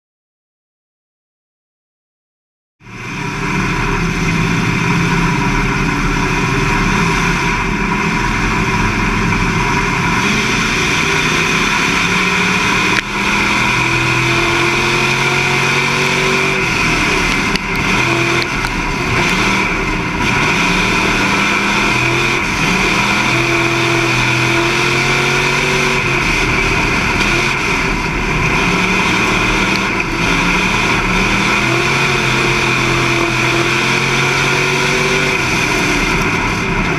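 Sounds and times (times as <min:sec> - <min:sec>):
race car engine revving: 0:02.8 - 0:36.9.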